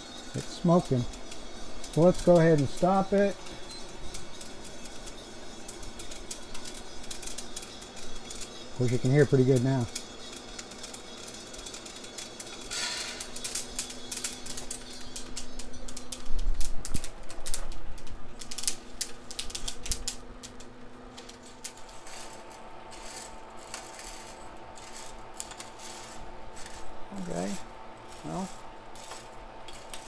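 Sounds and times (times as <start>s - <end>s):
coffee beans popping: 0.0s - 30.0s.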